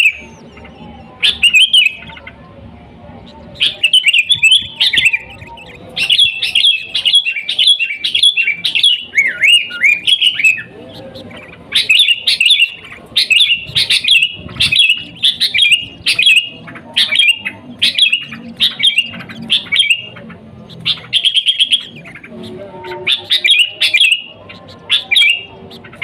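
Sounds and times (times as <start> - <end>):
bird singing whistled notes: 0.0 - 2.2, 3.5 - 22.2, 23.1 - 25.8.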